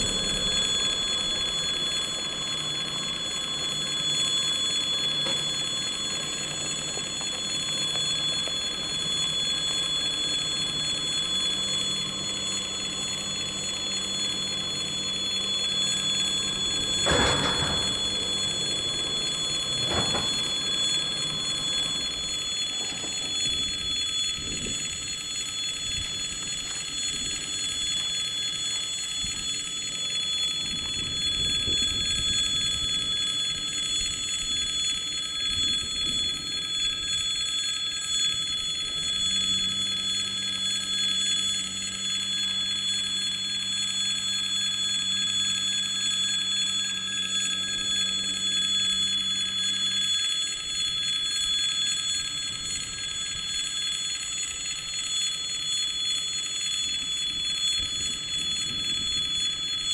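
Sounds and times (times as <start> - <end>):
level-crossing warning bell ringing: 0.0 - 59.9
steady low hum: 0.0 - 59.9.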